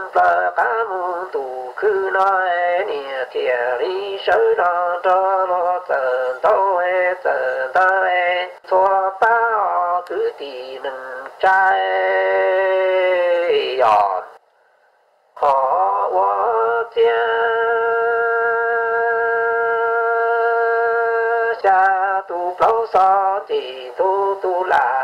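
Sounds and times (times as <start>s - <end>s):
person singing: 0.0s - 14.4s, 15.4s - 25.0s.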